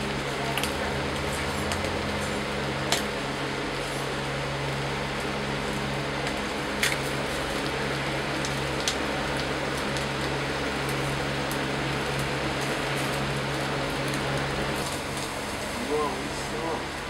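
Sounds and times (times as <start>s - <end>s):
fish grilling over charcoal: 0.0s - 17.0s
steady low hum: 0.0s - 17.0s.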